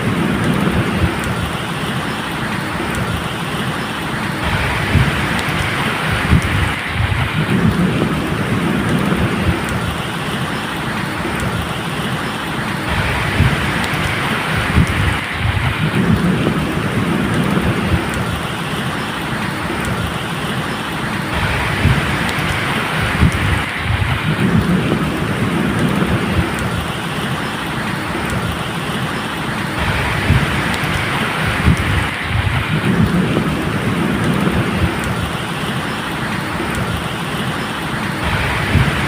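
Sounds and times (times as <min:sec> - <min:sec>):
low rolling thunder: 0:00.0 - 0:27.3, 0:29.5 - 0:37.4, 0:38.0 - 0:39.0
steady rain: 0:00.0 - 0:39.0.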